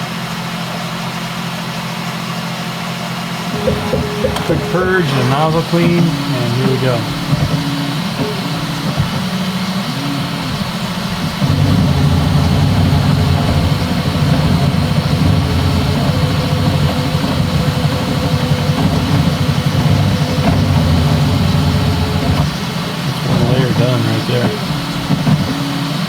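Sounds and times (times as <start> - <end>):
printer stepper motors whirring: 3.3 - 26.0.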